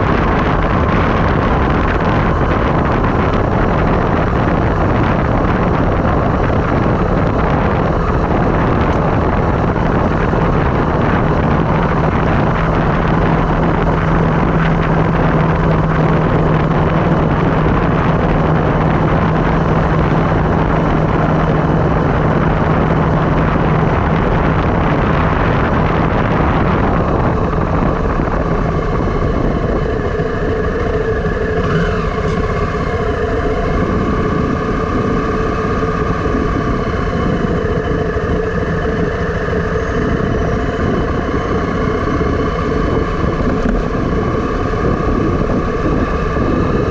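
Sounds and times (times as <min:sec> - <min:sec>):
road noise: 0:00.0 - 0:46.9
steady tones: 0:00.0 - 0:46.9
wind rushing: 0:00.0 - 0:46.9.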